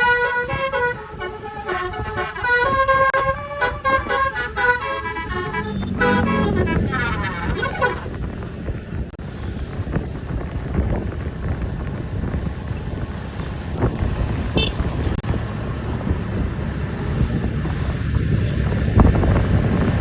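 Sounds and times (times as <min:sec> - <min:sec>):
road vehicle rumble: 0:00.0 - 0:20.0
wind buffeting microphone: 0:00.0 - 0:20.0.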